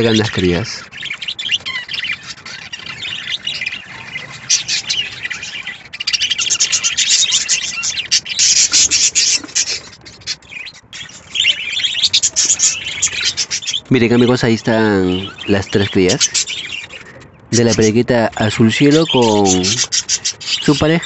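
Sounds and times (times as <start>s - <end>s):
budgerigars chirping: 0.0s - 21.0s.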